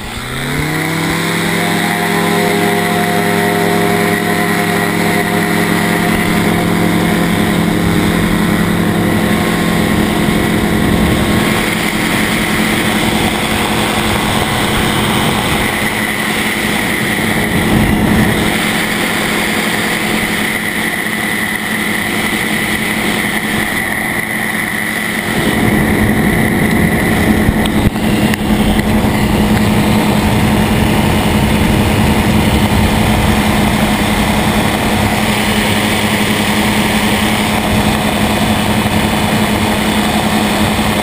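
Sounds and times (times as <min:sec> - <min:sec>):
engine and propeller drone: 0:00.0 - 0:41.0.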